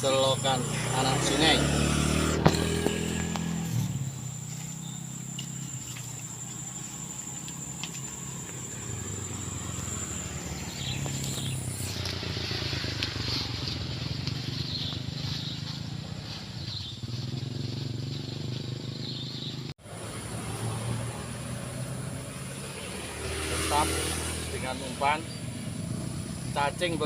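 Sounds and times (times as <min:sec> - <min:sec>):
high insect trill: 0:00.0 - 0:27.0
motor traffic drone: 0:00.0 - 0:27.0.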